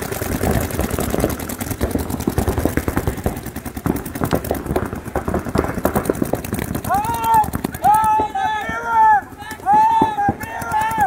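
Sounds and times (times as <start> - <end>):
paintball markers firing: 0.0 - 11.0.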